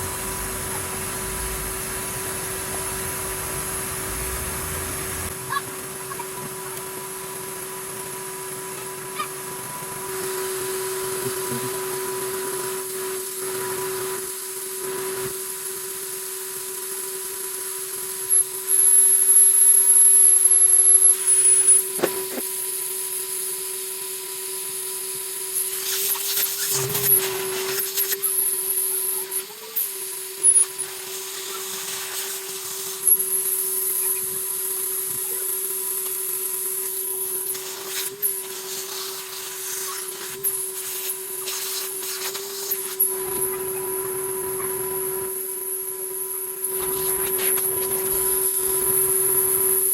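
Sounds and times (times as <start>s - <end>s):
vacuum cleaner motor whine: 0.0s - 49.9s.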